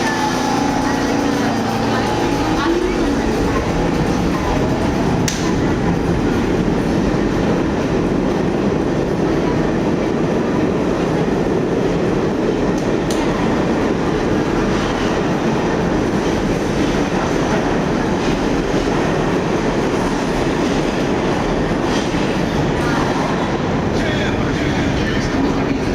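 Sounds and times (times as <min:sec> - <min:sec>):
subway train rumbling: 0:00.0 - 0:25.9.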